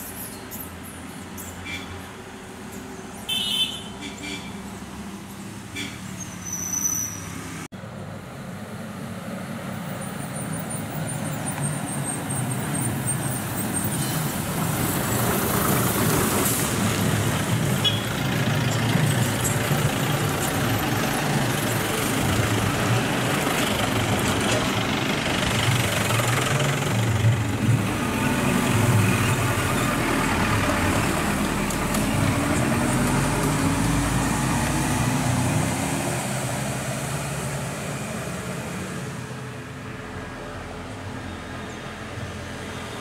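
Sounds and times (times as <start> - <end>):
diesel lorry engine: 0.0 - 43.0
other vehicle engines: 0.0 - 43.0.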